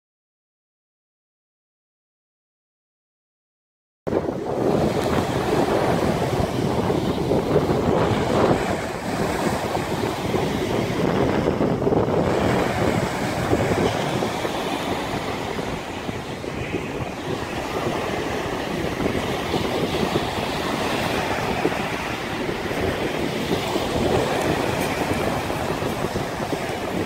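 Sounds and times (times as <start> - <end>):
rushing water and surf: 4.1 - 27.0
wind buffeting microphone: 4.1 - 27.0.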